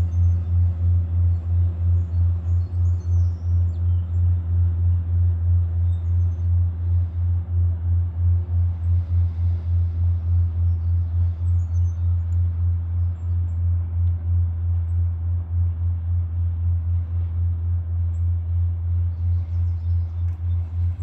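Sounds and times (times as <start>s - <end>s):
pulsing engine drone: 0.0s - 21.0s.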